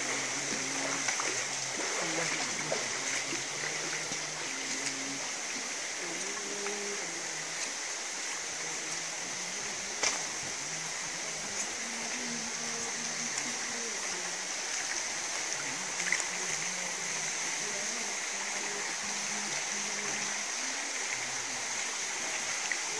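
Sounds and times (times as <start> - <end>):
insect chorus droning: 0.0 - 22.9
running water: 0.0 - 22.9.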